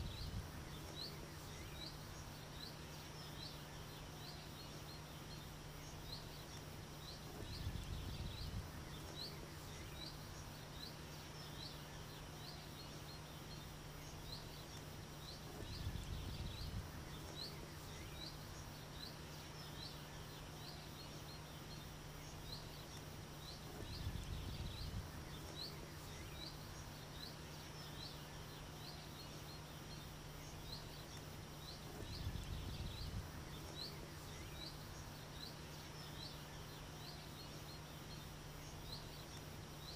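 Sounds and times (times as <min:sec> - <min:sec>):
faint steady hiss: 0:00.0 - 0:39.9
low steady hum: 0:00.0 - 0:39.9.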